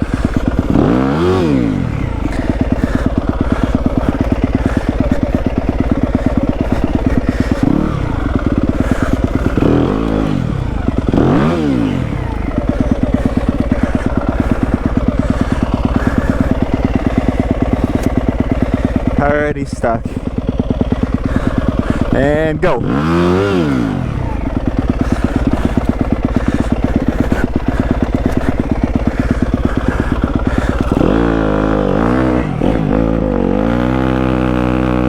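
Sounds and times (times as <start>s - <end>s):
dirt bike engine throttle blips: 0.0s - 35.0s.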